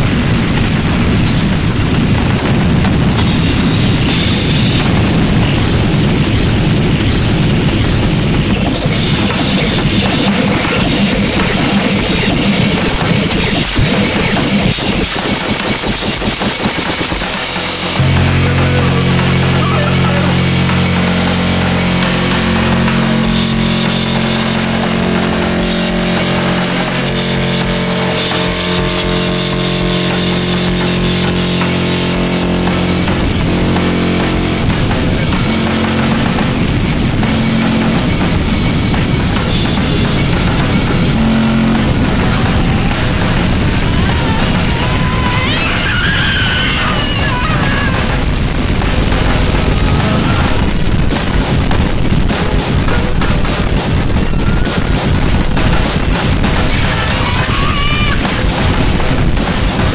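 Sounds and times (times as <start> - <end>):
harsh distorted noise music: 0.0 - 59.9
low droning tones: 0.0 - 59.9.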